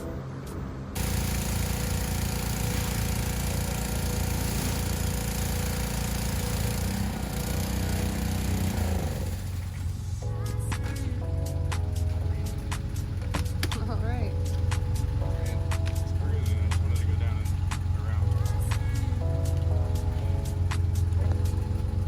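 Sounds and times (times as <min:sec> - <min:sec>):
car engine running: 0:00.8 - 0:22.0.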